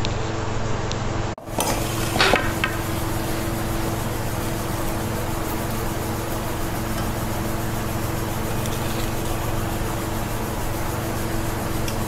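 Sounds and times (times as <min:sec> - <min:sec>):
steady hiss and hum: 0:00.0 - 0:12.0.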